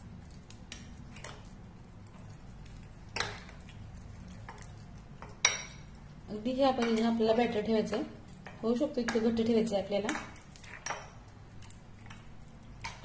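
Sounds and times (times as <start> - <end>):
spoon stirring thick batter: 0.0 - 13.0.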